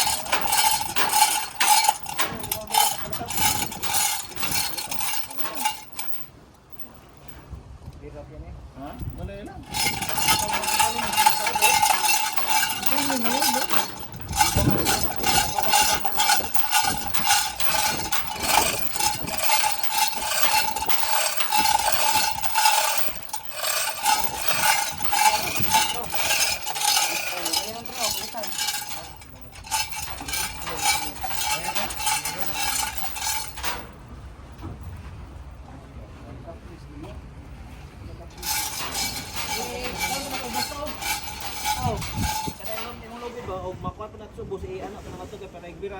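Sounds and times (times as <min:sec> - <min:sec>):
metal scraping and clicking: 0:00.0 - 0:07.3, 0:09.0 - 0:34.0, 0:38.3 - 0:43.2.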